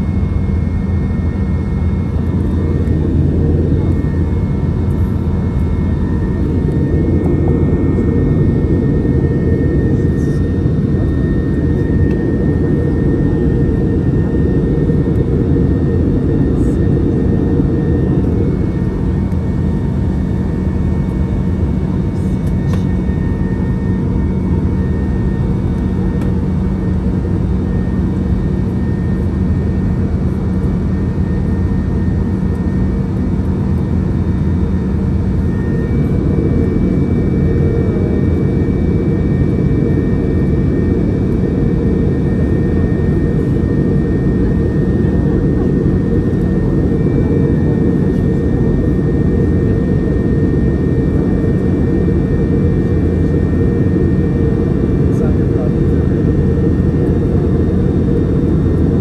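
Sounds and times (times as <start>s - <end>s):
airliner engine and airflow drone: 0.0s - 59.0s
faint steady whine: 0.0s - 59.0s.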